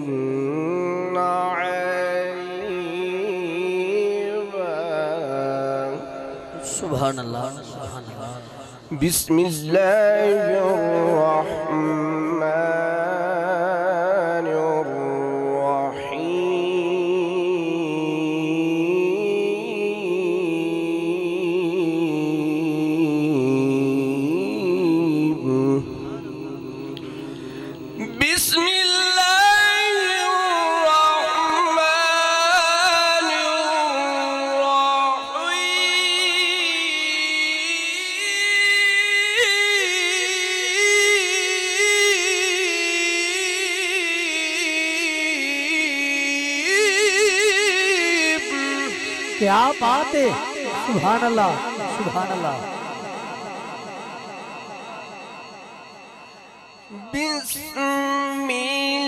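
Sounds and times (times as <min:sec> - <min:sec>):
man chanting melodically: 0:00.0 - 0:59.0.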